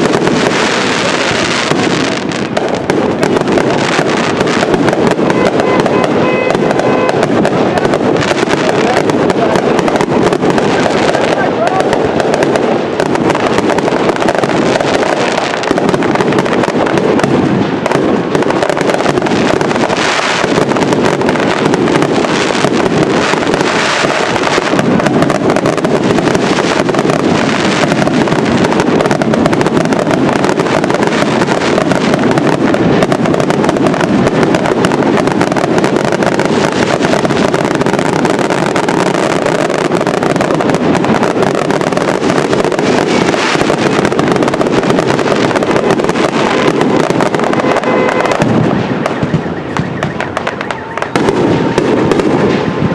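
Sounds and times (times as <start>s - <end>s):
firework explosions: 0.0s - 52.9s.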